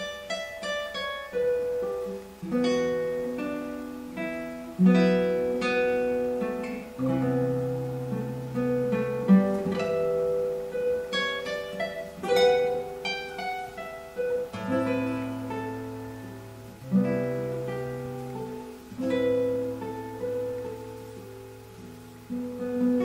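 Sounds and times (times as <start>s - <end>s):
fingerstyle classical guitar: 0.0s - 23.0s.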